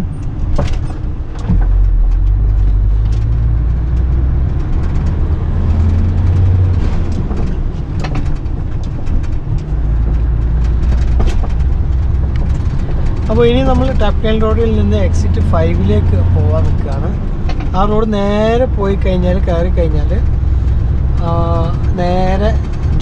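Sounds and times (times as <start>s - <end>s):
truck engine and road drone: 0.0s - 23.0s
small clicks and rattles: 0.2s - 15.4s, 16.6s - 18.7s, 19.3s - 23.0s.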